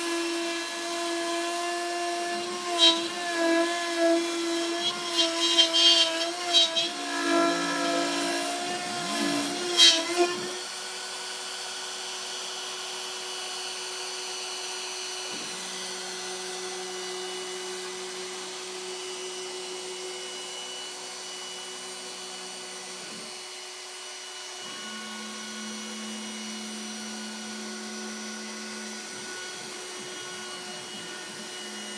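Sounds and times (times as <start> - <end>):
router spindle whine: 0.0 - 31.9.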